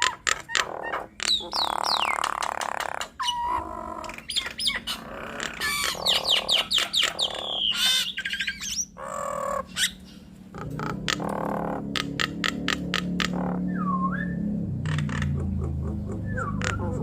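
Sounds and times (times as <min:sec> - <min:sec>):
mynas calling: 0:00.0 - 0:17.0.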